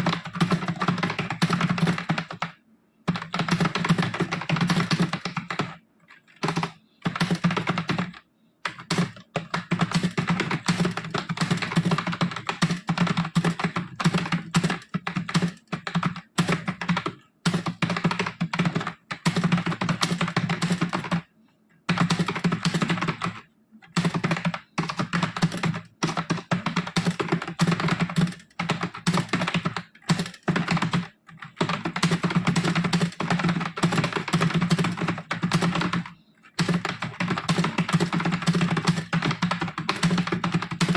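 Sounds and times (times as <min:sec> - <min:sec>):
fast typing on keyboard: 0:00.0 - 0:21.3, 0:21.9 - 0:40.9.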